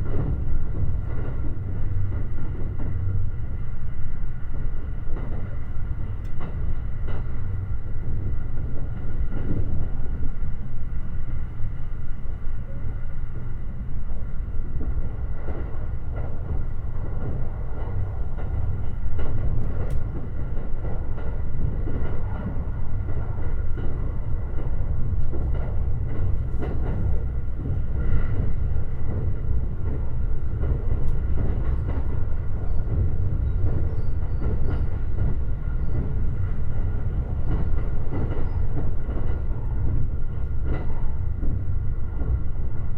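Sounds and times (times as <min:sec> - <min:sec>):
train wheels rumbling on rail: 0:00.0 - 0:42.9.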